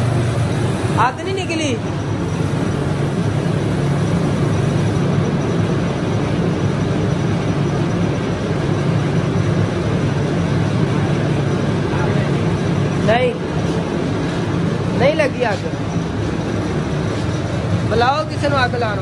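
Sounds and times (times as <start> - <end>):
blower motor humming: 0.0 - 19.0.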